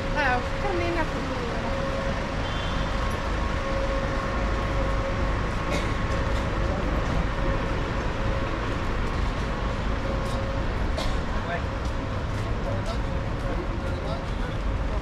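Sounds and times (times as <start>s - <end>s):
constant hum: 0.0s - 15.0s
low vehicle rumble: 0.0s - 15.0s.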